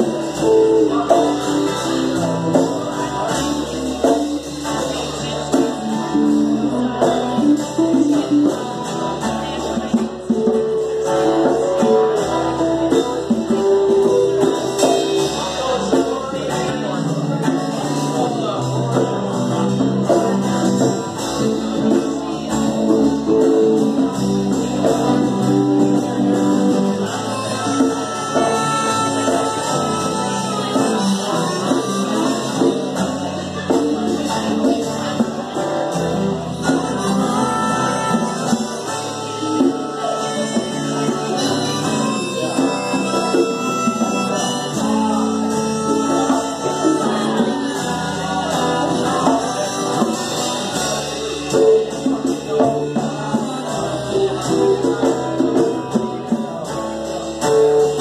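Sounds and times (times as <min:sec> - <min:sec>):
drum kit: 0:00.0 - 0:58.0
electric bass: 0:00.0 - 0:58.0
electric guitars: 0:00.0 - 0:58.0.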